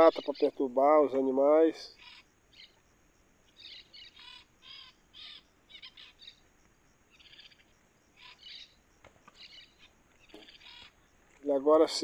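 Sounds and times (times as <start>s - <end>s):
faint birdsong chirping: 0.0s - 12.0s.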